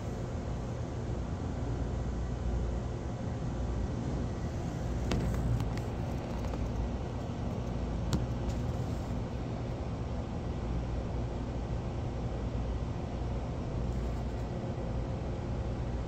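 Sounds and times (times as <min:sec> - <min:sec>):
low rumble and hum: 0:00.0 - 0:16.0.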